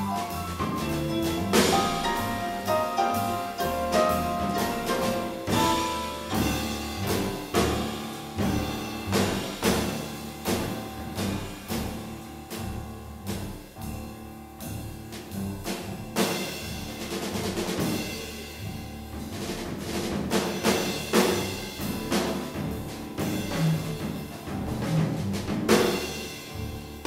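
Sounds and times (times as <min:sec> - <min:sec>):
jazz drum solo: 0:00.0 - 0:27.0.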